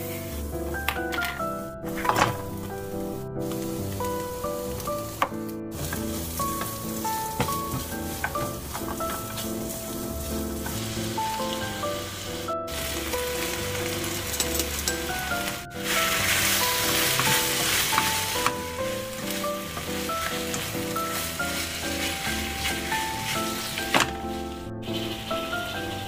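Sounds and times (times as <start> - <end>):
background music of held notes: 0.0 - 26.0
food sizzling in frying pan: 2.6 - 26.0.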